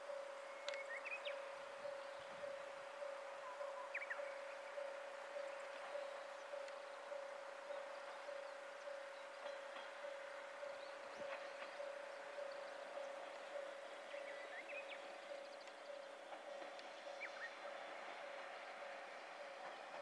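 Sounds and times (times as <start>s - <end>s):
distant level-crossing alarm ringing: 0.0s - 20.0s.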